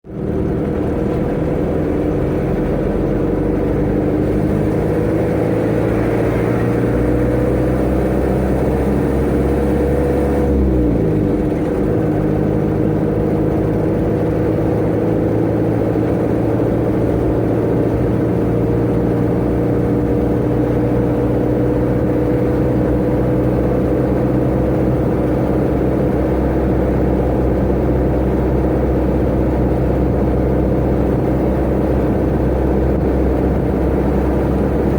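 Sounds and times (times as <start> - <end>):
truck engine accelerating with whine: 0.0 - 34.9.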